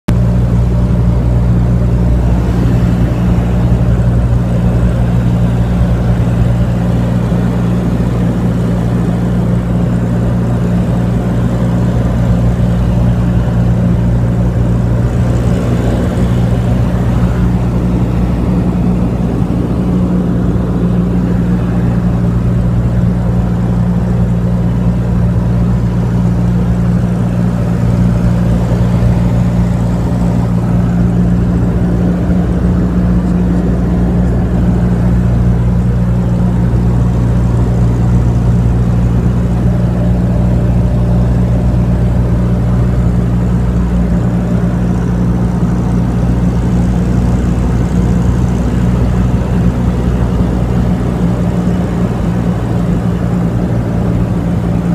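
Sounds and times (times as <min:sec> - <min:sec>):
aircraft engine and propeller droning: 0:00.1 - 0:54.9.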